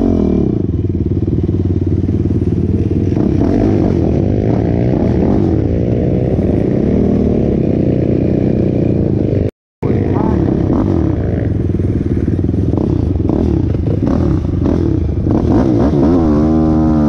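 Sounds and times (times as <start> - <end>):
quad bike engine revving: 0.0 - 17.0.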